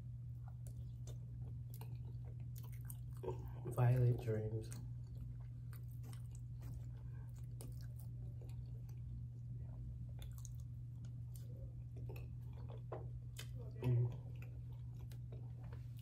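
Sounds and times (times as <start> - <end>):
chewing pasta: 0.0 - 16.0
steady low hum: 0.0 - 16.0.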